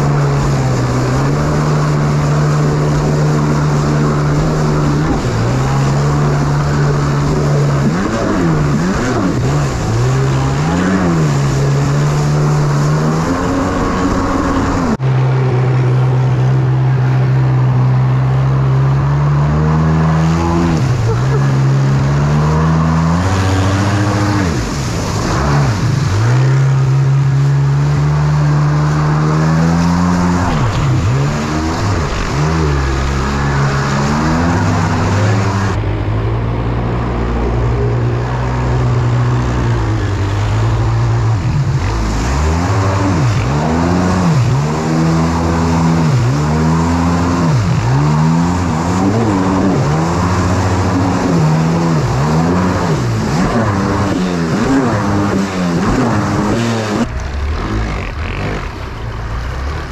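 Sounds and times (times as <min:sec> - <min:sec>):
jet ski engine running: 0:00.0 - 0:59.9.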